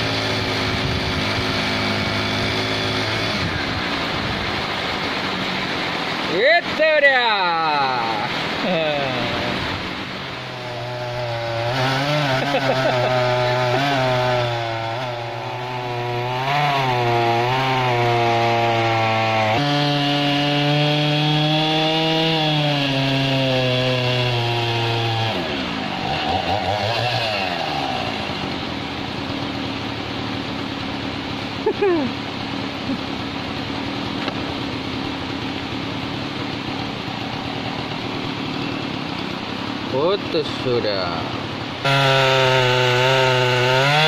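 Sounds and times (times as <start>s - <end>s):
chainsaw cutting through log: 0.0s - 6.5s, 7.4s - 44.0s.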